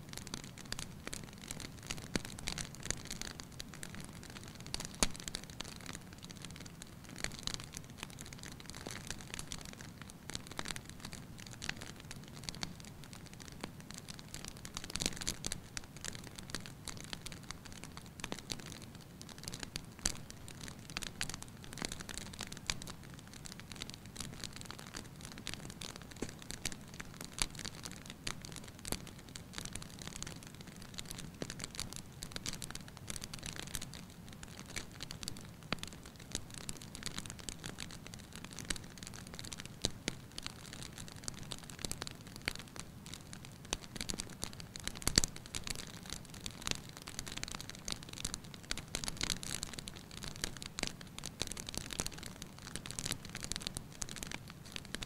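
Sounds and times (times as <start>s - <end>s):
logs crackling and popping: 0.0s - 55.0s.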